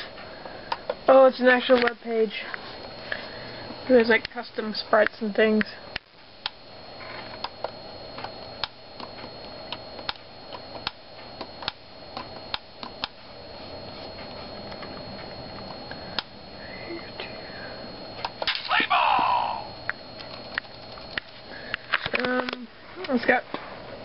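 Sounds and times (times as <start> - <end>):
steady high-pitched hiss: 0.0 - 24.0.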